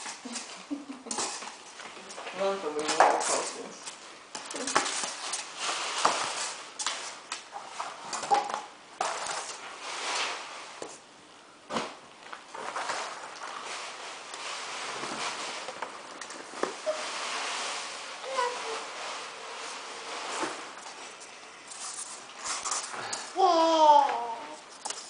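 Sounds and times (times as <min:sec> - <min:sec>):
cardboard and styrofoam rustling on floor: 0:00.0 - 0:25.0.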